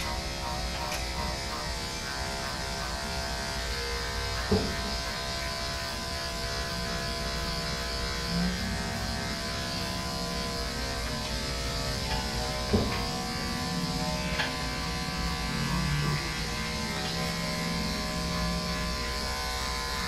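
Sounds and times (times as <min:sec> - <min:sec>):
electric dog clippers buzzing: 0:00.0 - 0:20.0.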